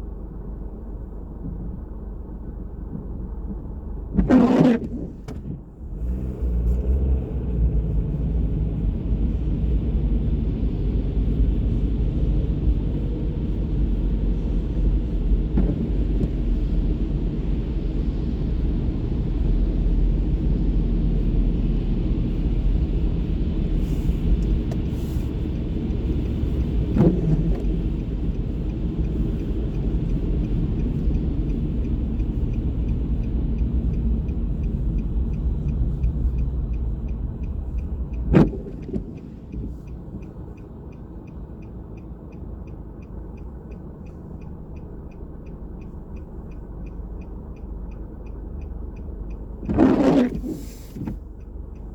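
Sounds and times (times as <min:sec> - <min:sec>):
city traffic rumble: 0:00.0 - 0:51.9.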